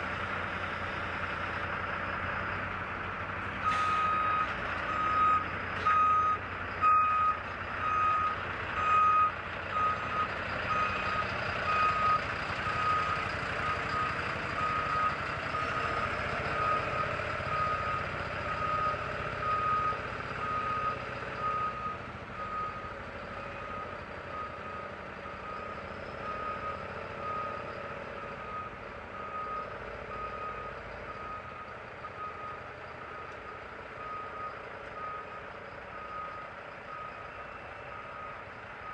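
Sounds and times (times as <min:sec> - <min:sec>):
engine noise: 0:00.0 - 0:38.9
truck reversing alarm beeps: 0:00.0 - 0:38.9.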